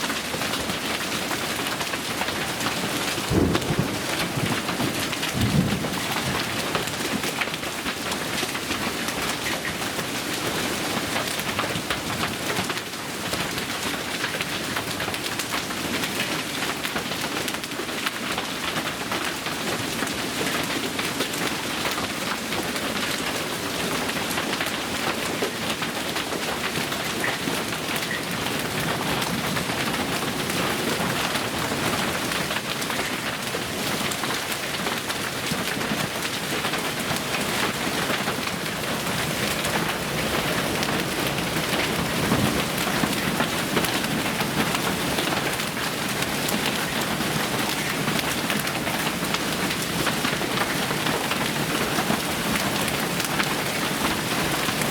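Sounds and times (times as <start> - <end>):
heavy rain pounding: 0.0 - 54.9.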